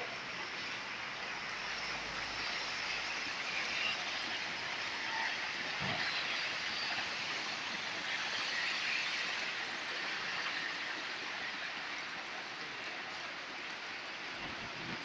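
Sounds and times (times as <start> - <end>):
heavy rain on wet pavement: 0.0 - 15.0.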